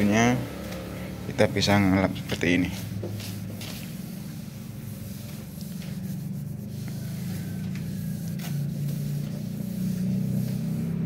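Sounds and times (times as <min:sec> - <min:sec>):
damp cloth wiping car panel: 0:01.0 - 0:11.0.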